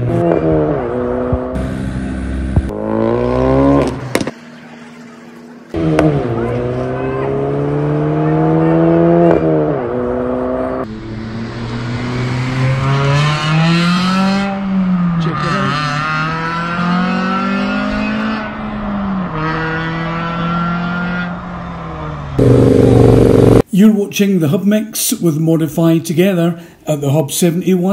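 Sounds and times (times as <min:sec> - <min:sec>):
car engines revving: 0:00.0 - 0:23.7.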